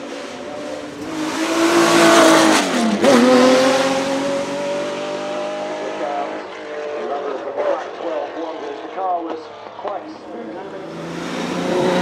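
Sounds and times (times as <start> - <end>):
race car engine passing: 0.0 - 9.0, 10.5 - 12.0.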